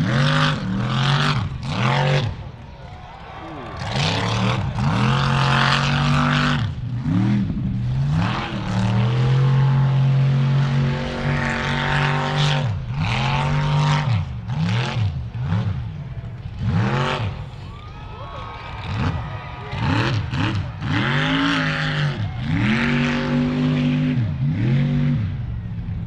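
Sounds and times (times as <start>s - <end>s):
truck engine revving hard: 0.0s - 17.7s, 18.6s - 26.0s.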